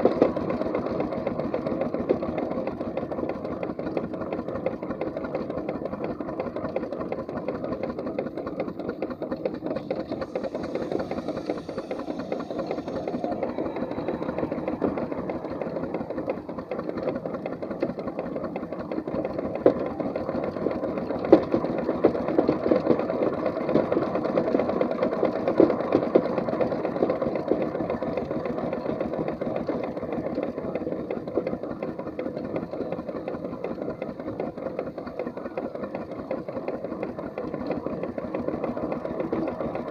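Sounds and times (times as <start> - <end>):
steam engine clatter: 0.0 - 39.9.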